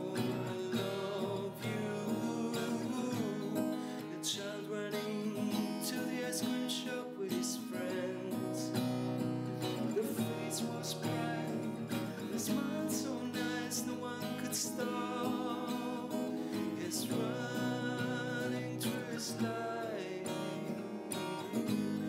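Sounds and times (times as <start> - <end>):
strummed acoustic guitar music: 0.0 - 22.0.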